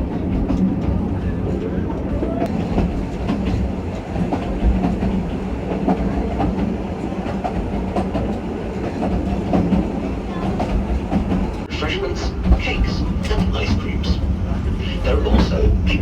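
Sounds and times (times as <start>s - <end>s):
train wheels rumbling on rails: 0.0s - 16.0s
wheels clickety-clack: 2.4s - 16.0s.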